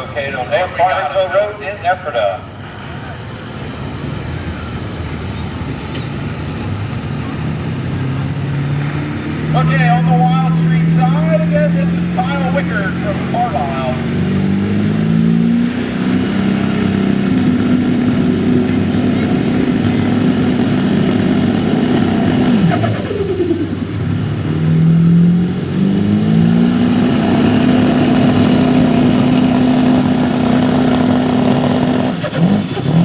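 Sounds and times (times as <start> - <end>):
diesel engine at high revs: 0.0 - 33.0.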